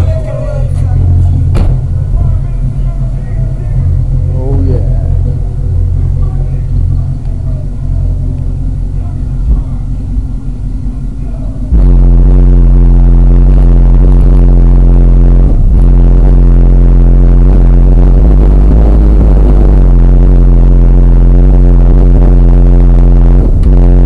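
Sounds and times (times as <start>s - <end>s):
hip-hop music with heavy bass: 0.0s - 24.0s.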